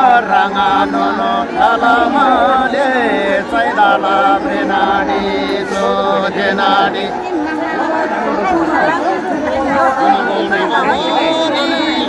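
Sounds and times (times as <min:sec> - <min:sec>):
crowd chatter: 0:00.0 - 0:12.0
group singing folk song: 0:00.0 - 0:12.0.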